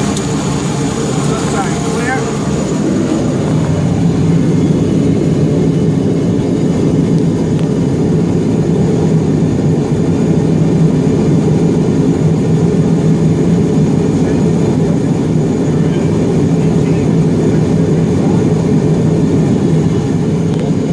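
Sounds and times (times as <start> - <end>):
aircraft engine droning: 0.0 - 20.9.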